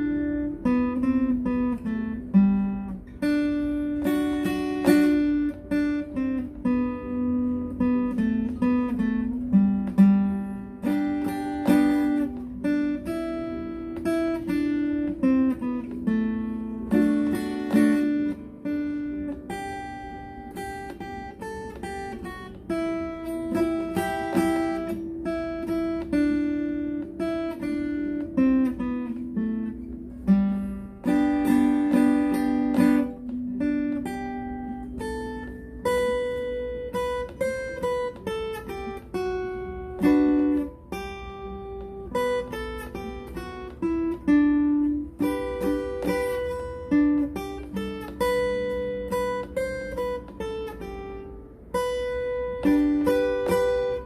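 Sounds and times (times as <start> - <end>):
acoustic guitar melody: 0.0 - 54.0
guitar chords strummed: 0.0 - 54.0.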